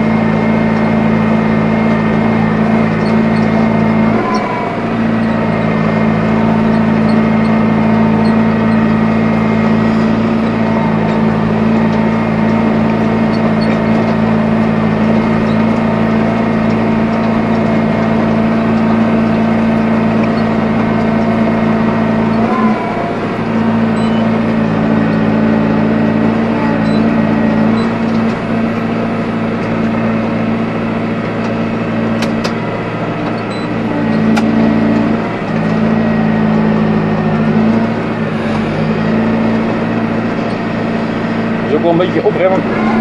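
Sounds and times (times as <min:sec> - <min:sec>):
tractor engine under load: 0:00.0 - 0:43.0.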